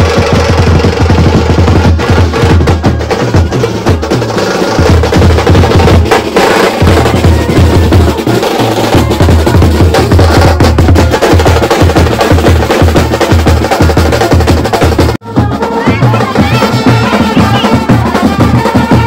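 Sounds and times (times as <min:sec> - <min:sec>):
brass band playing: 0:00.0 - 0:19.0
fast dense drumming: 0:00.0 - 0:19.0.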